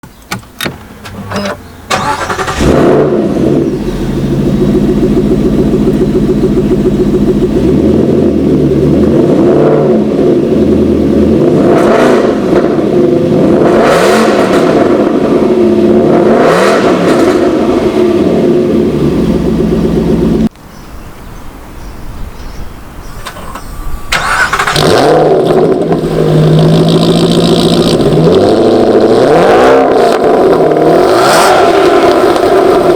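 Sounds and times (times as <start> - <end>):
car engine starting and revving: 0.1 - 20.5, 22.4 - 32.9.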